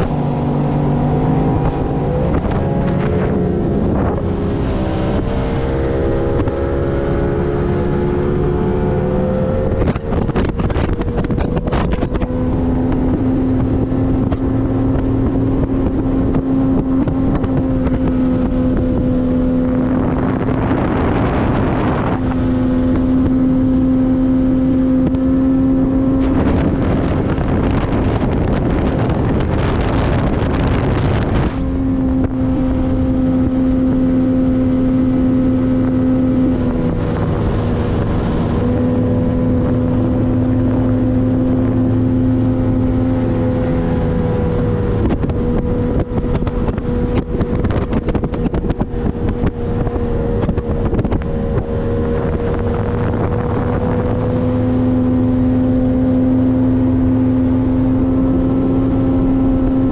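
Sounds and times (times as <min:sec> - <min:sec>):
outboard motor running: 0:00.0 - 0:59.9
wind noise on microphone: 0:00.0 - 0:59.9.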